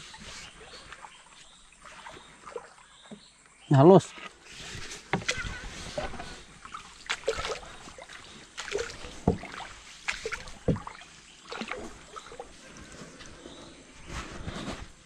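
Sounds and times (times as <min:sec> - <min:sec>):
paddle splashing in water: 0:00.0 - 0:03.4, 0:04.1 - 0:14.7.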